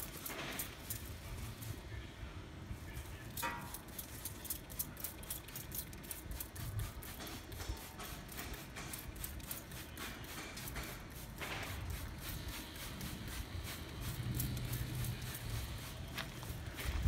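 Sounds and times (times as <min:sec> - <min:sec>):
spray bottle squirting water: 0:00.0 - 0:01.8, 0:03.3 - 0:17.0.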